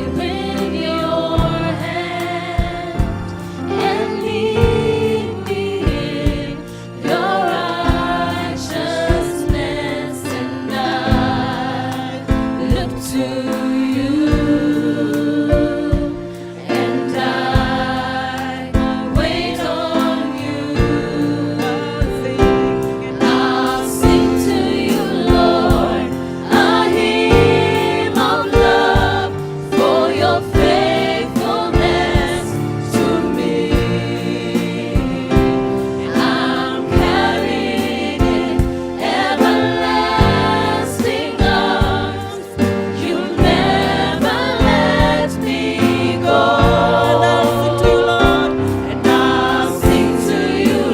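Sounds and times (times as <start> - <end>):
gospel choir singing: 0.0 - 50.9
instrumental backing with beat: 0.0 - 50.9.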